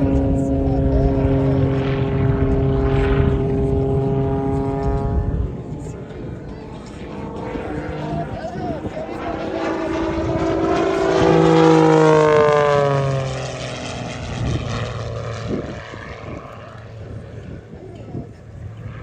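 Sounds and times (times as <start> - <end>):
propeller plane flying past: 0.0 - 19.0.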